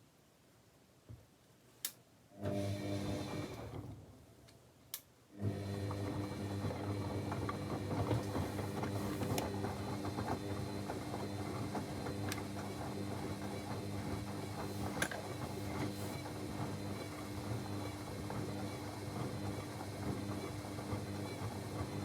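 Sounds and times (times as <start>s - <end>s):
washing machine motor hum: 2.4s - 4.1s, 5.4s - 22.0s.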